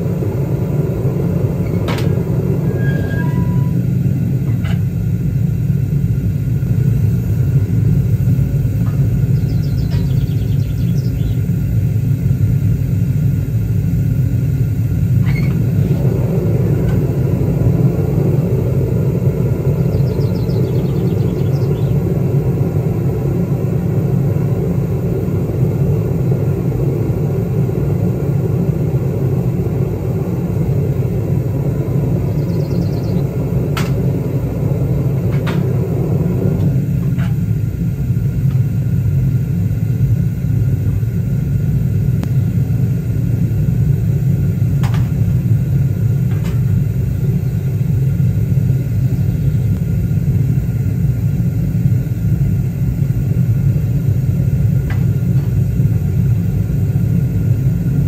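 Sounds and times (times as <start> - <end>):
propane burner rumbling: 0.0 - 58.0.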